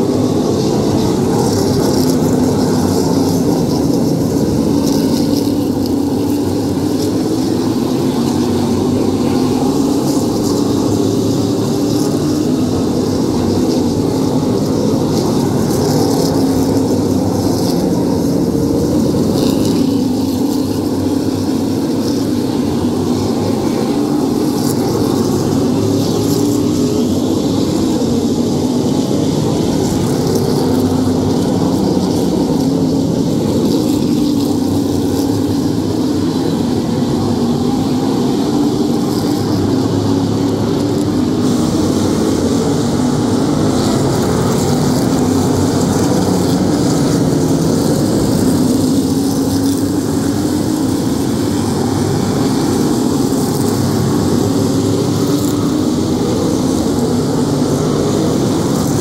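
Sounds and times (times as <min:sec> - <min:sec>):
race car engines droning: 0:00.0 - 0:59.0.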